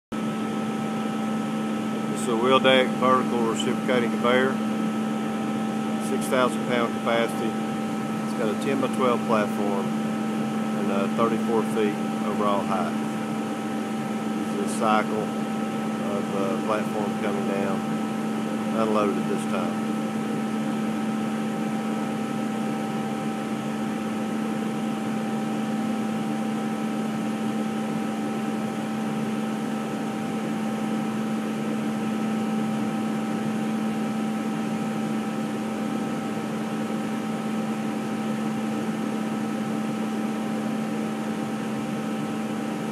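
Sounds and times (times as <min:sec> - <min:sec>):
low machinery drone: 0:00.1 - 0:42.9.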